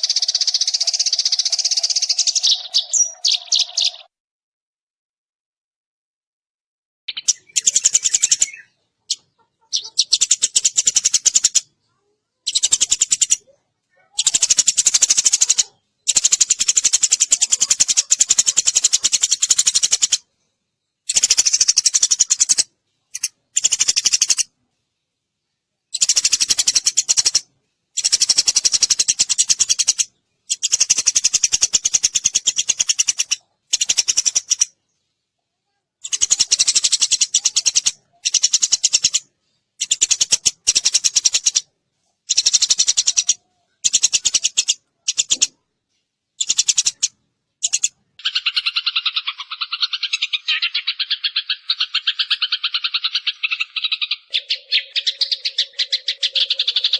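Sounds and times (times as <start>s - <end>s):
sparrow chirping: 0.0s - 4.1s, 7.1s - 24.6s, 25.9s - 45.6s, 46.3s - 56.9s.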